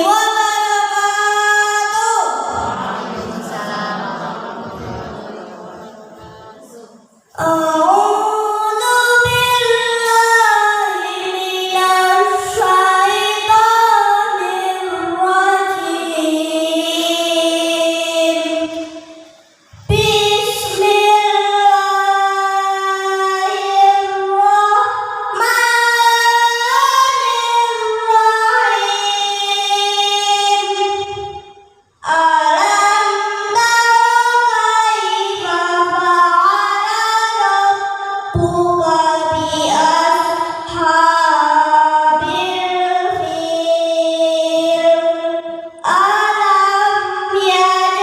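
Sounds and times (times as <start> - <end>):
child singing: 0.0 - 19.0, 19.8 - 48.0.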